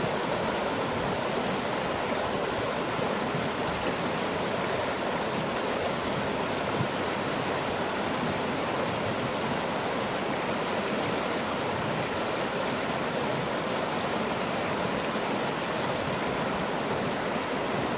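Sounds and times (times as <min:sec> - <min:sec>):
water rushing over rocks: 0:00.0 - 0:17.9.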